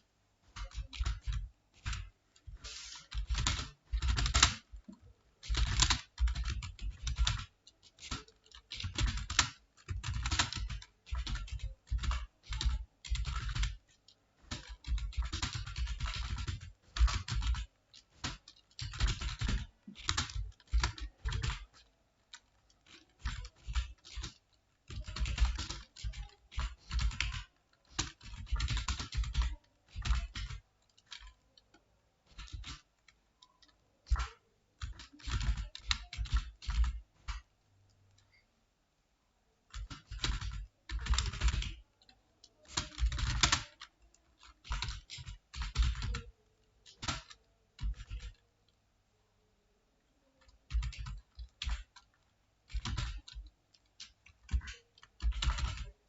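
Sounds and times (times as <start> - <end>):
keyboard typing: 0.4 - 38.5, 39.7 - 48.8, 50.3 - 56.0.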